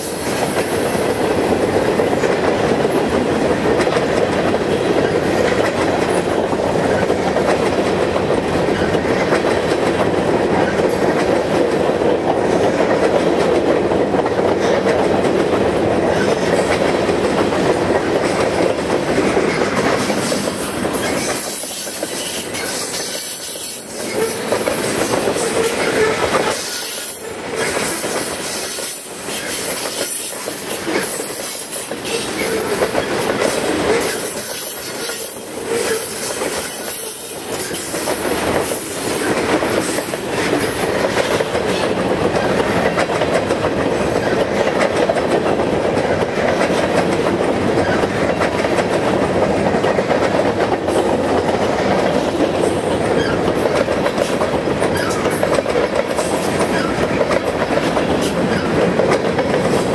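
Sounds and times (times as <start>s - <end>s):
freight train rolling past: 0.0s - 59.9s
wheels clicking over rail joints: 0.0s - 59.9s.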